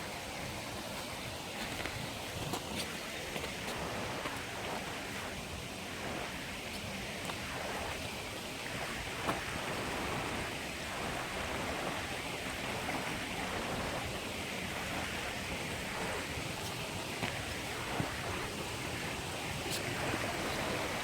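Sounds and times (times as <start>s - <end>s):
mountain stream rushing: 0.0s - 21.0s.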